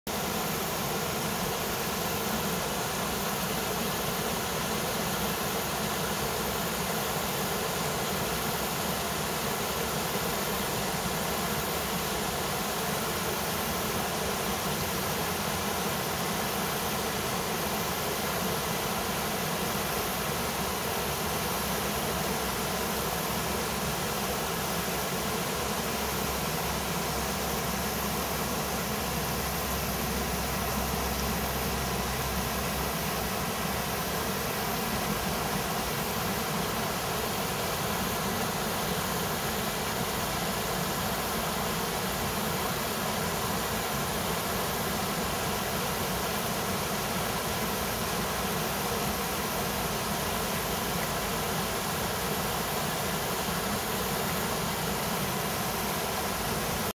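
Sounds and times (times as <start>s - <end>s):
water rushing over rocks: 0.1s - 56.9s.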